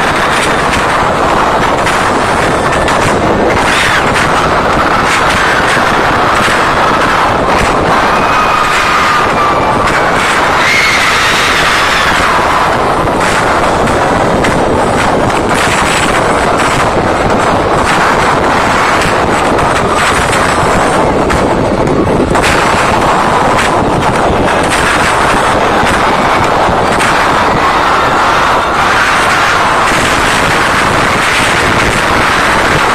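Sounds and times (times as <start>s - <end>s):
crowd screaming distorted: 0.0s - 32.9s.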